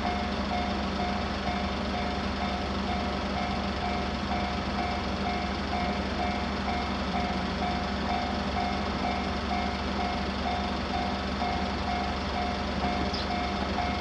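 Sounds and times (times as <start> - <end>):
level-crossing warning bell dinging: 0.0 - 14.0.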